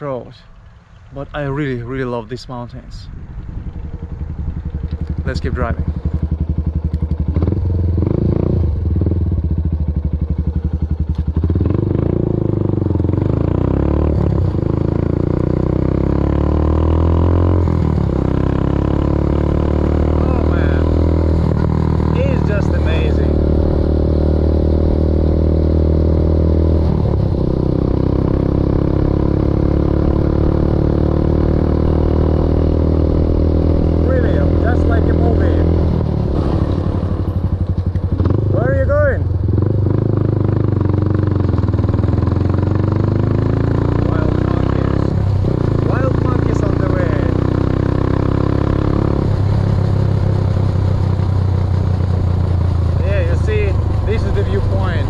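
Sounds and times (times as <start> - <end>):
motorbike engine running: 3.3 - 55.0.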